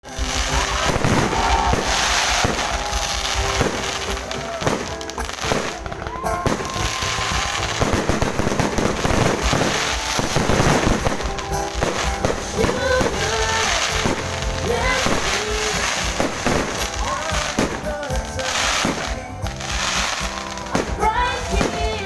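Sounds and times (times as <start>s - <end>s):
fireworks banging: 0.0s - 22.0s.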